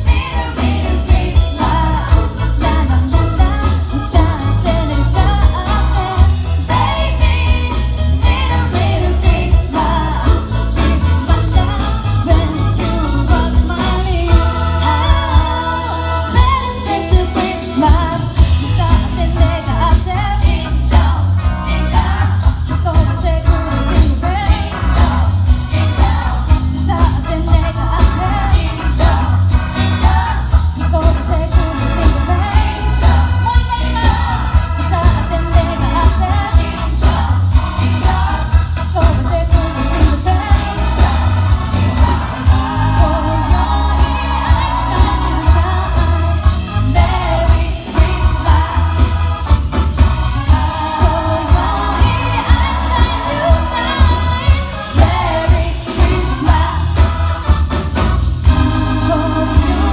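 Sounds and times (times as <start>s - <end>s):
pop song with jingle bells: 0.0s - 59.9s.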